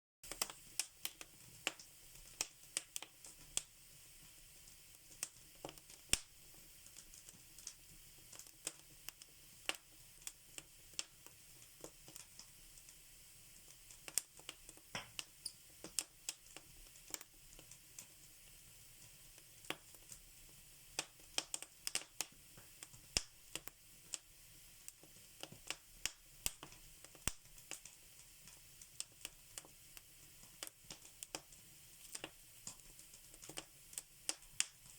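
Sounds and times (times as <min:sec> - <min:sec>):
faint steady hiss: 0:00.2 - 0:34.9
fire crackling in fireplace: 0:00.2 - 0:34.9.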